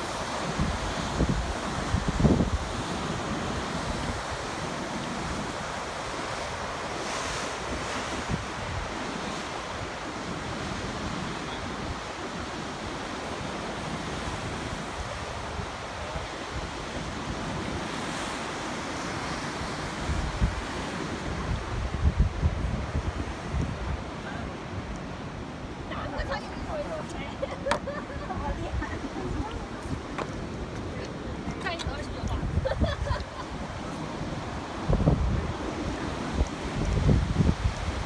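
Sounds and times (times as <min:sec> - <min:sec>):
waves breaking on cliffs: 0:00.0 - 0:38.0
wind buffeting microphone: 0:00.0 - 0:38.0.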